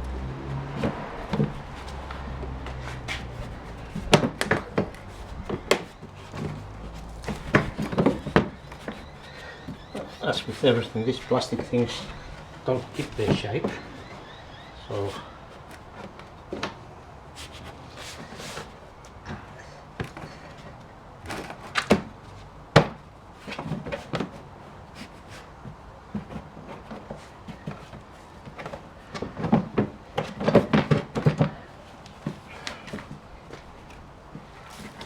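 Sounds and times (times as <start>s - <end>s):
knocks and clatters of tools and parts: 0.0s - 14.3s, 19.3s - 24.4s, 26.1s - 35.0s.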